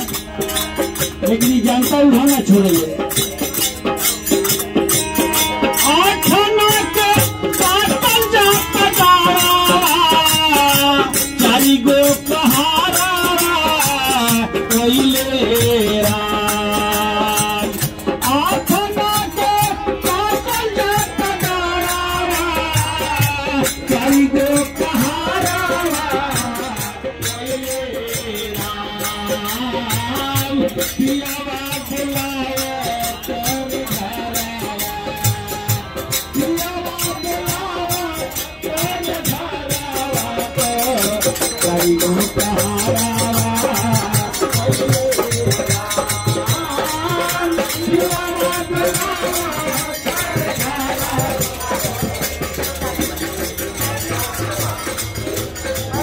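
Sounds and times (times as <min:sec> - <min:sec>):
jingling hand percussion: 0:00.0 - 0:56.0
person singing devotional song: 0:00.0 - 0:56.0.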